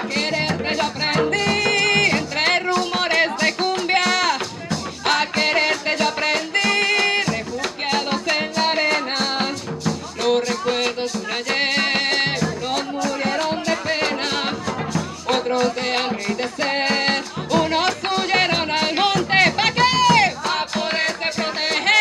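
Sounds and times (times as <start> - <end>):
drums keeping a steady beat: 0.0 - 22.0
shaken rattle: 0.0 - 22.0.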